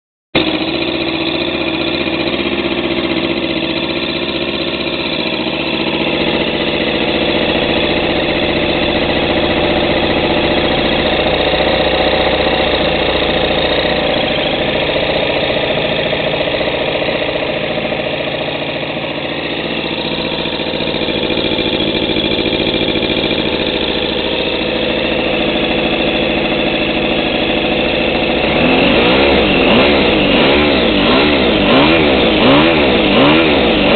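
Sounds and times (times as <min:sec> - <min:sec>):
small boat engine running: 0:00.4 - 0:33.9.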